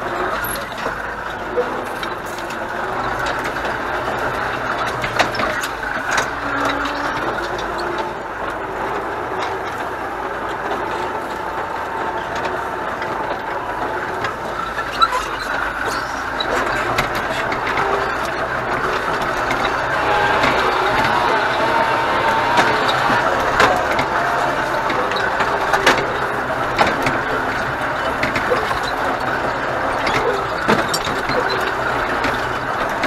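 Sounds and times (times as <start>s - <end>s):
cab knocks and rattles: 0.0s - 33.0s
tractor diesel engine running: 0.0s - 33.0s.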